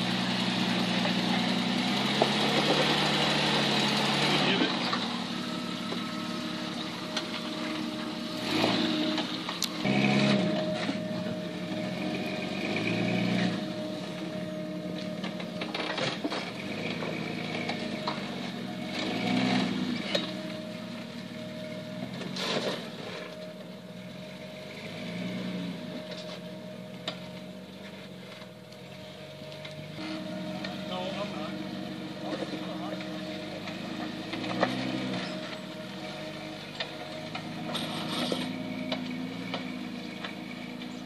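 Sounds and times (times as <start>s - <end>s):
engine running at low revs: 0.0s - 41.0s.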